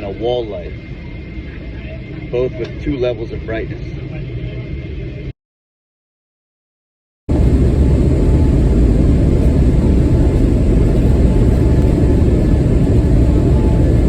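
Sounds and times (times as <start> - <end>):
jet engines rumbling in cabin: 0.0 - 5.3, 7.3 - 14.0.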